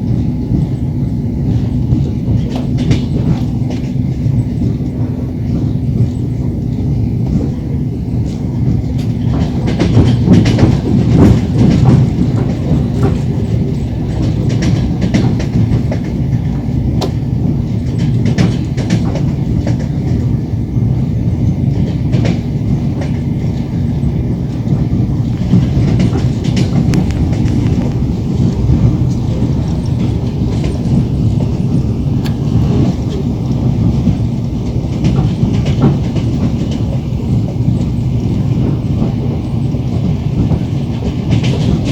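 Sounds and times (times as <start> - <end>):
train carriage low rumble: 0.0 - 41.9
train wheels clacking on rail joints: 0.0 - 41.9.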